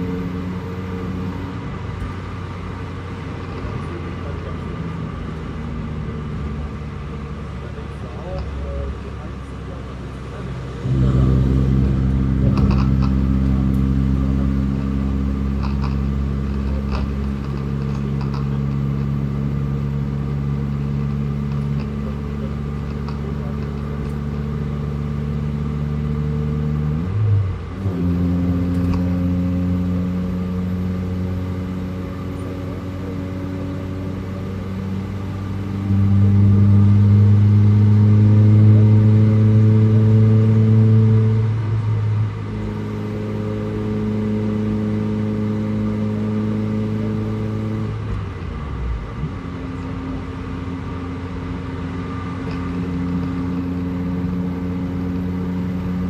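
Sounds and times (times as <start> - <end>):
car engine under throttle: 0.0 - 56.0.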